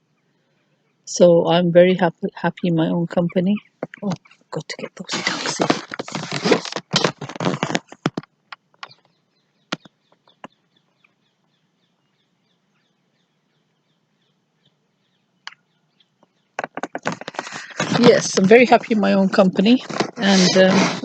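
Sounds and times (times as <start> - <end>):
bird chirping: 0.0 - 19.3.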